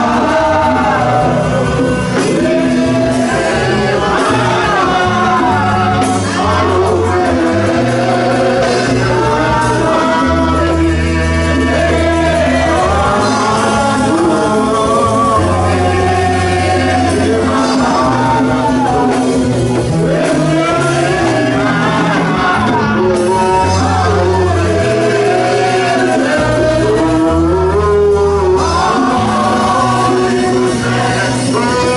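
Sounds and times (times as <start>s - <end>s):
gospel band playing: 0.0s - 31.9s
person singing into a microphone: 0.0s - 31.9s
steady bass line: 0.0s - 31.9s.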